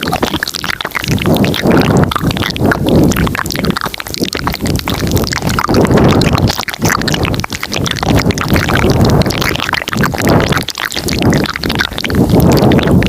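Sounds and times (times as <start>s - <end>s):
wet mouth clicks and smacks: 0.0s - 13.0s.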